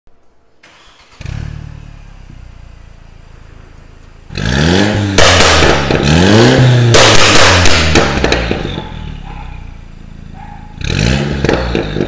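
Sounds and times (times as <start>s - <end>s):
car engine starting and idling: 0.2s - 12.0s
car engine revving: 0.6s - 12.0s.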